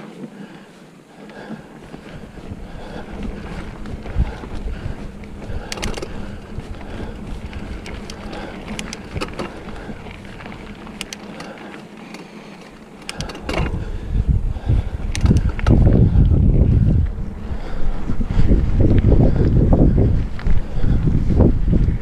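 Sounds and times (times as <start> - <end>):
bike clicks and rattles: 0.0 - 22.0
bike tyre rumble on dirt: 0.0 - 22.0
wind buffeting microphone: 1.4 - 11.5, 12.8 - 22.0.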